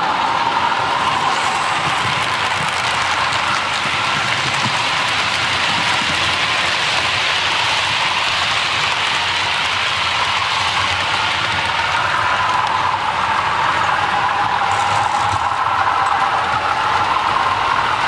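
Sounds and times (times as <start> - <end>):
model train rattling past: 0.0 - 18.0.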